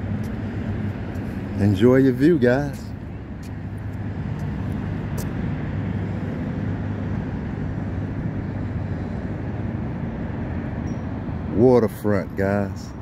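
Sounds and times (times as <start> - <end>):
low mechanical hum: 0.0 - 13.0
outdoor background noise: 0.0 - 13.0.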